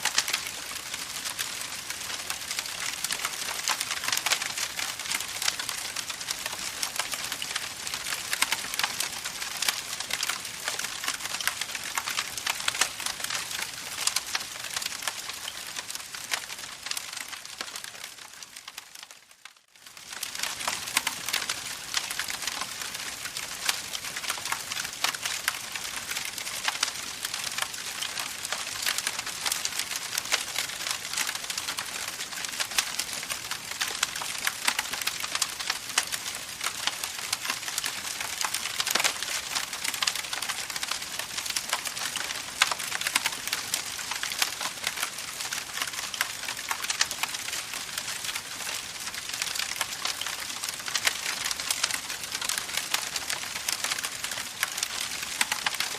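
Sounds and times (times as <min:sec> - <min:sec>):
campfire crackling and popping: 0:00.0 - 0:19.1, 0:19.8 - 0:55.9.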